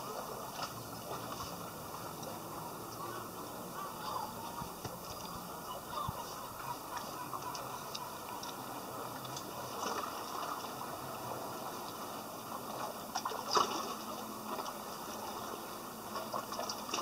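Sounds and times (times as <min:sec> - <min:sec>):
water lapping on rocks: 0:00.0 - 0:17.0.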